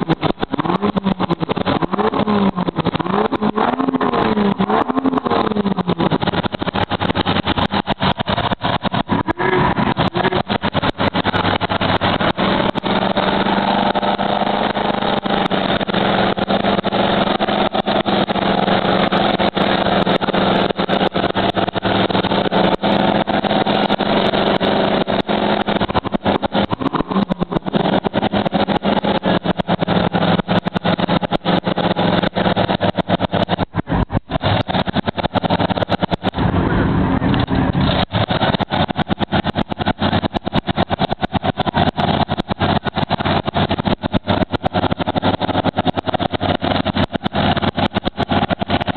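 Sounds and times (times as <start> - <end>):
dense crackle: 0.0 - 36.6, 37.2 - 48.9
tires churning through mud: 0.0 - 48.9
truck engine revving high: 0.0 - 48.9.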